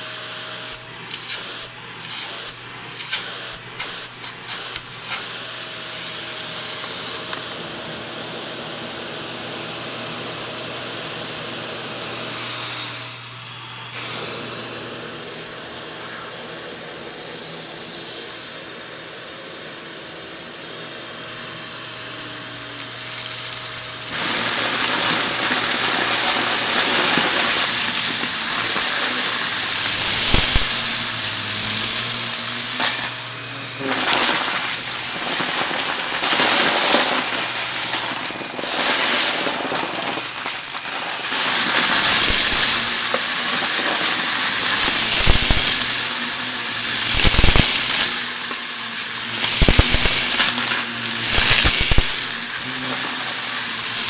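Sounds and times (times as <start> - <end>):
vacuum cleaner sucking up debris: 0.0 - 9.4, 13.9 - 16.3, 21.2 - 54.0.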